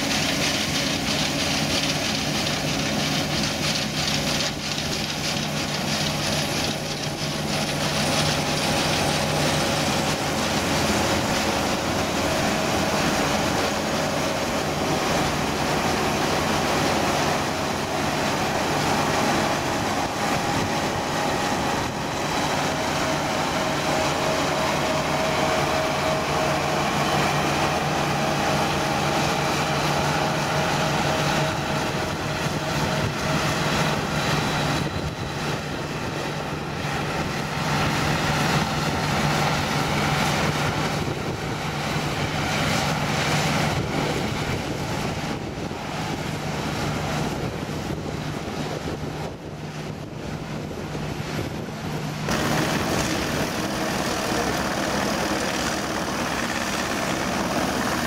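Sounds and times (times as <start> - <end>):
combine harvester drone: 0.0 - 58.0
high machine whine: 0.0 - 58.0.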